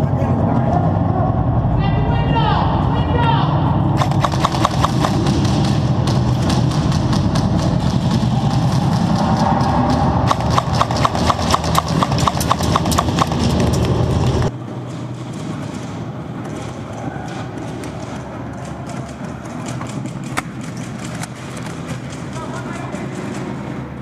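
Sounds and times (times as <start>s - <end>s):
steady low rumble: 0.0s - 24.0s
sharp clacks: 4.0s - 24.0s.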